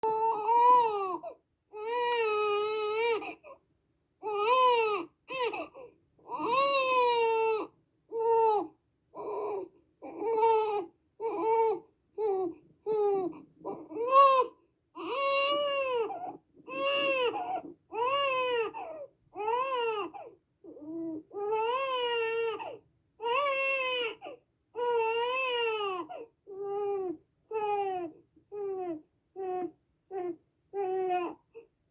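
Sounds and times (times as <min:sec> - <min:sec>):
infant crying: 0:00.0 - 0:03.6, 0:04.2 - 0:31.4.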